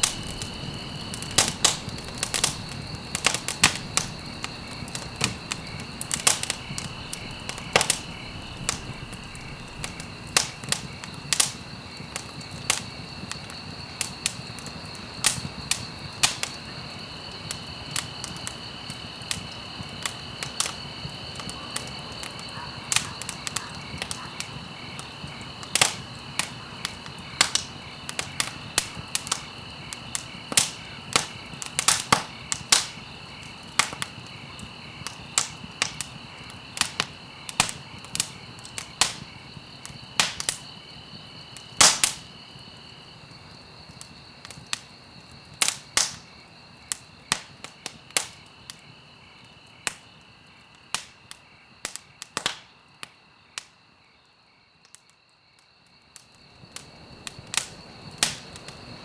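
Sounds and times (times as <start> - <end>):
wood fire crackling and popping: 0.0 - 53.7, 55.8 - 59.0.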